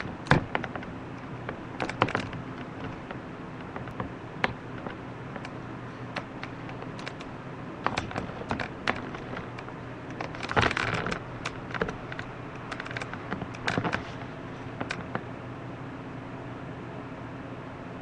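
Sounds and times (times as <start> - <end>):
light scratching clicks: 0.0 - 15.3.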